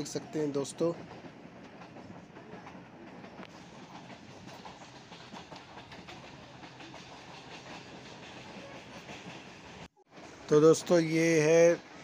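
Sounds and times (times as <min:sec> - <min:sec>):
wheels clicking on rails: 0:00.0 - 0:11.8
train carriage rumbling and rattling: 0:00.0 - 0:12.0.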